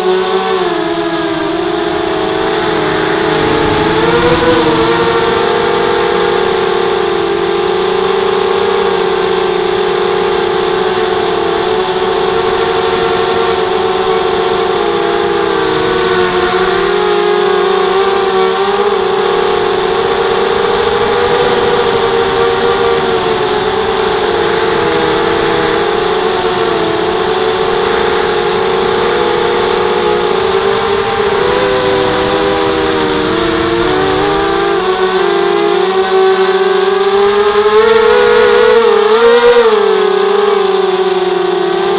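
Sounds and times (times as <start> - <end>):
drone motors buzzing whine: 0.0 - 41.9.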